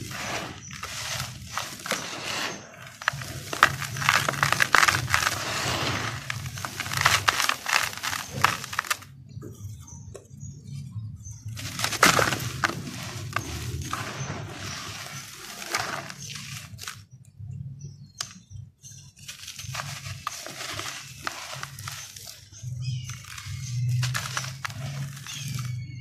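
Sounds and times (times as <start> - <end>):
hands crushing dry dirt: 0.0 - 9.2, 11.5 - 26.0.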